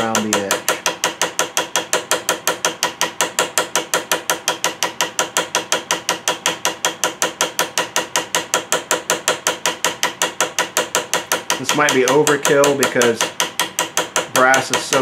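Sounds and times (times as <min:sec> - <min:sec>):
hammer tapping on brass rivet: 0:00.0 - 0:15.0.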